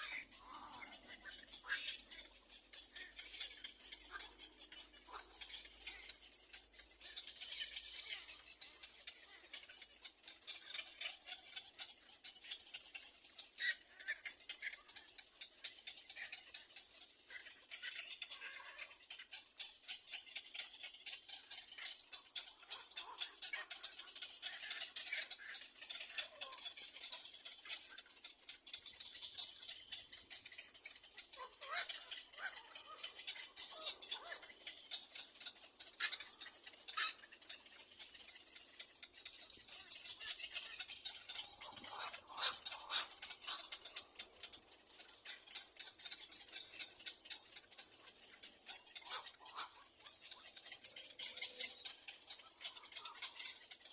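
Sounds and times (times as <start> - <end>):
bird chicks clicking chatter: 0.0 - 53.9.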